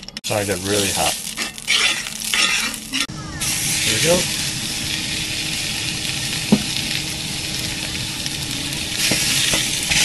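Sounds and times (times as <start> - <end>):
steak sizzling in a skillet: 0.3 - 10.0.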